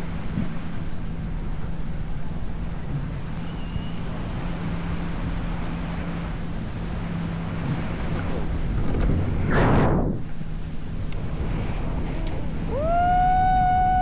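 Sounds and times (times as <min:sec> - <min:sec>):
boat engine humming: 0:00.0 - 0:14.0
wind on microphone: 0:02.6 - 0:14.0.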